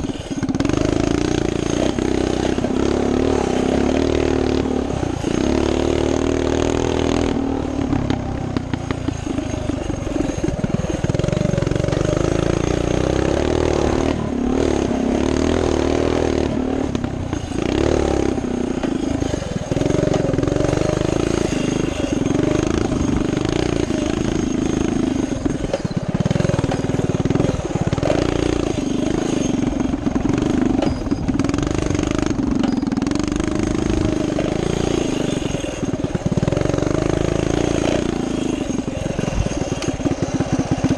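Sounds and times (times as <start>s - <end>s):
minibike engine revving: 0.0s - 40.9s.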